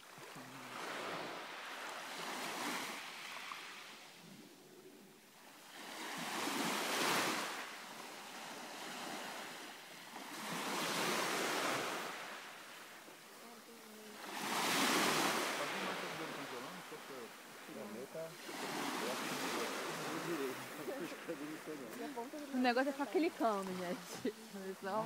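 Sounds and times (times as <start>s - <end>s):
small waves washing onto beach: 0.0s - 25.0s.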